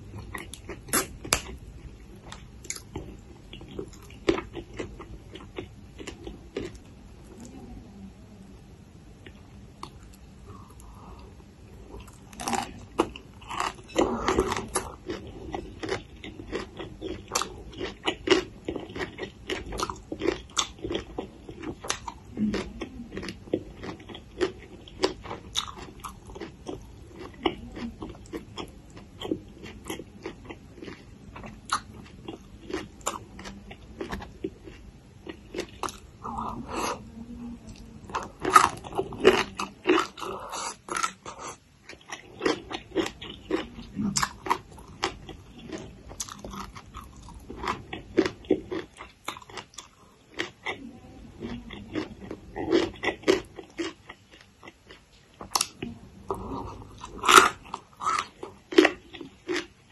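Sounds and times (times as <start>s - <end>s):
crunchy biting and wet chewing: 0.2s - 6.8s, 12.0s - 37.0s, 38.1s - 50.8s, 51.5s - 59.9s.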